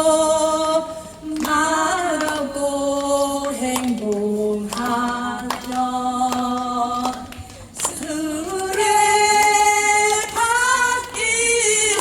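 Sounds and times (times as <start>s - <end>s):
woman singing unaccompanied: 0.0s - 12.0s
hand claps: 1.3s - 12.0s.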